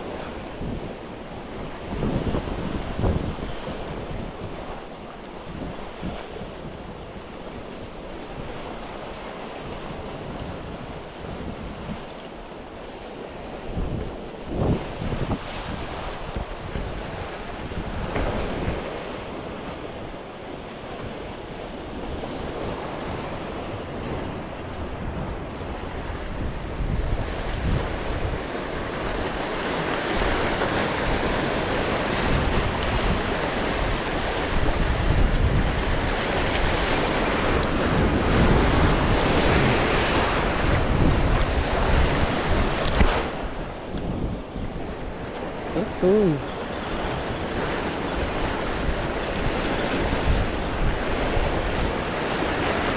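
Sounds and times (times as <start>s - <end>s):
sea surf rushing: 0.0s - 52.9s
wind gusting across microphone: 0.0s - 52.9s.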